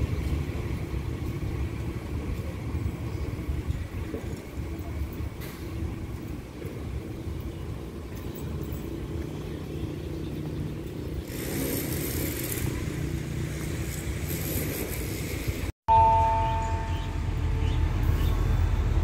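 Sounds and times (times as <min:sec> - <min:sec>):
diesel train engine rumble: 0:00.0 - 0:19.0.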